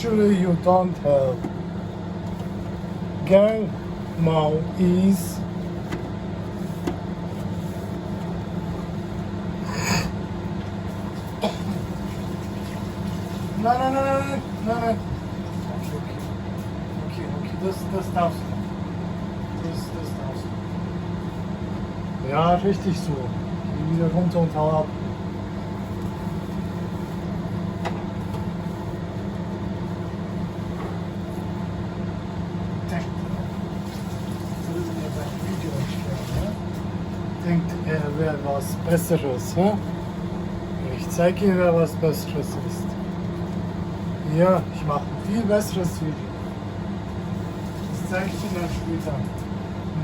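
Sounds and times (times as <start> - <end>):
low mechanical hum: 0.0 - 50.0.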